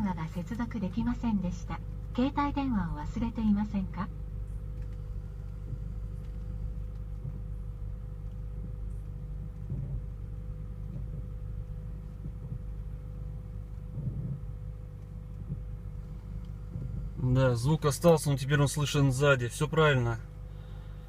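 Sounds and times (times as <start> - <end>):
faint steady hum: 0.0 - 21.0
road rumble inside car: 0.0 - 21.0.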